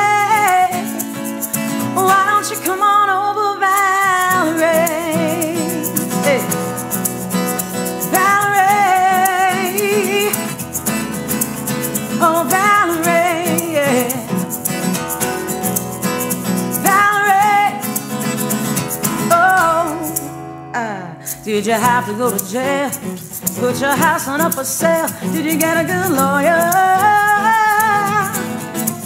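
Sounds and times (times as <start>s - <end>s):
woman singing wordless runs: 0.0s - 7.2s, 7.9s - 10.6s, 12.0s - 14.8s, 16.8s - 18.2s, 19.1s - 29.0s
acoustic guitar strumming: 0.0s - 29.0s.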